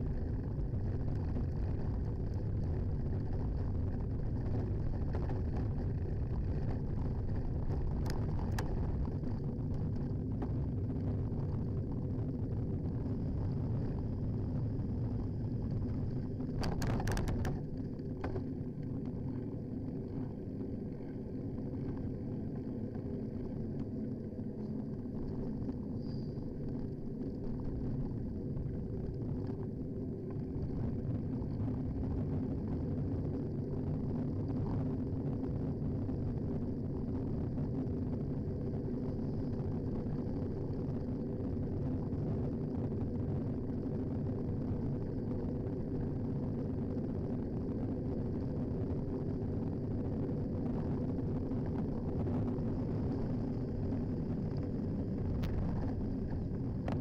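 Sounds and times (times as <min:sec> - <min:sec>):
road vibration rumble: 0:00.0 - 0:57.0.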